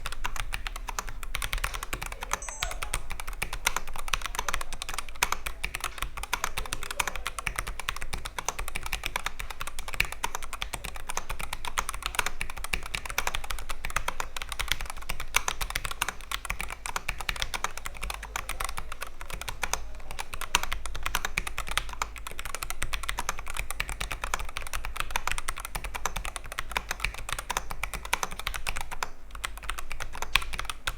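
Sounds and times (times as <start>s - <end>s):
fast typing on mechanical keyboard: 0.0s - 30.9s.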